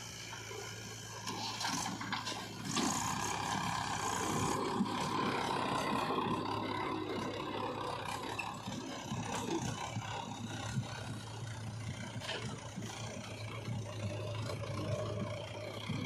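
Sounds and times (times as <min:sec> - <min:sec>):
diesel engine revving: 0:00.0 - 0:16.0
hydraulics working under load: 0:00.0 - 0:16.0.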